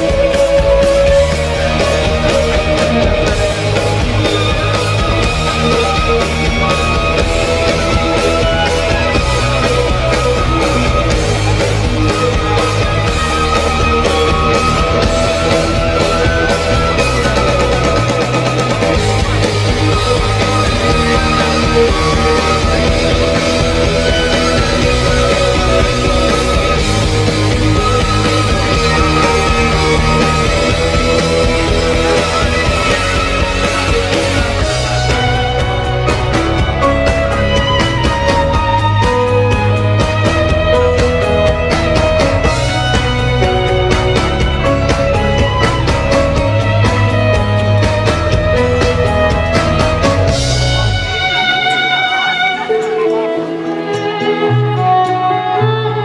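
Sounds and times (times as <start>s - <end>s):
backing track with bass and drums: 0.0s - 55.2s
violin melody: 0.0s - 56.0s.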